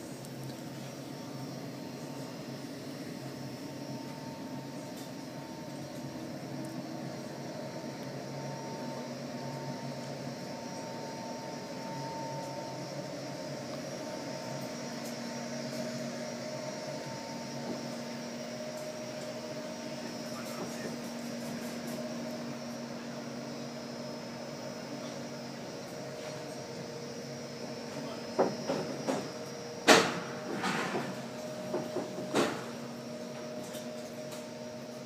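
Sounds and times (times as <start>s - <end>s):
steady humming tones: 0.0s - 35.0s.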